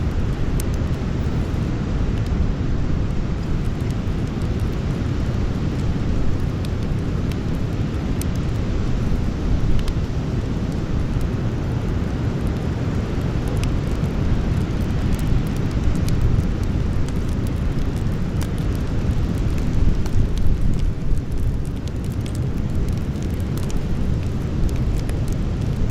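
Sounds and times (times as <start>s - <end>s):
campfire low rumble: 0.0s - 25.9s
wood crackling and popping: 0.0s - 25.9s.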